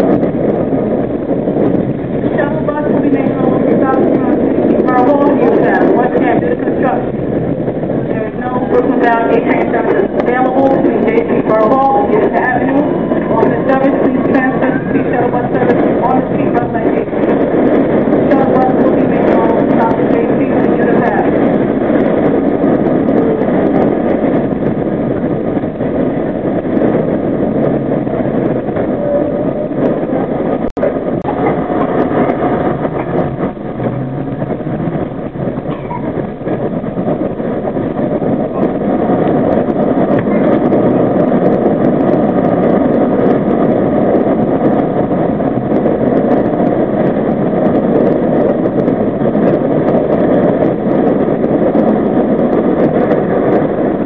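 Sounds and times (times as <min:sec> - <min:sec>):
subway train rumbling in tunnel: 0:00.0 - 0:54.0.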